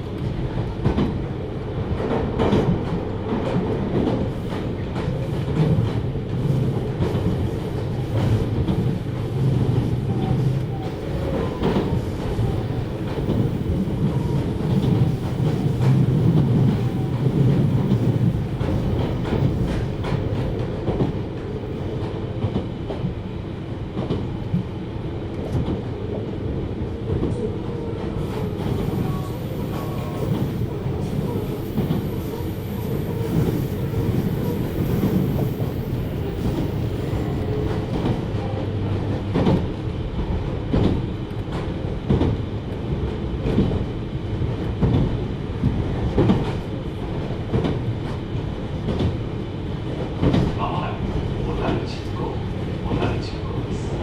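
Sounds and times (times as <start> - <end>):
train rumbling at speed: 0.0 - 54.0.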